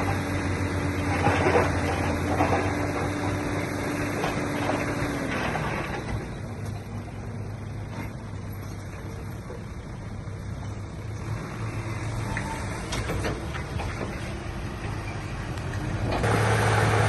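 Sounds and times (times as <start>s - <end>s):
heavy machinery diesel engine running: 0.0s - 17.0s.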